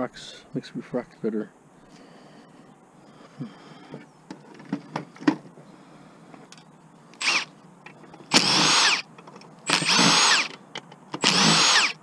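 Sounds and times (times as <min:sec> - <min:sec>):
faint background hiss: 0:00.0 - 0:11.2.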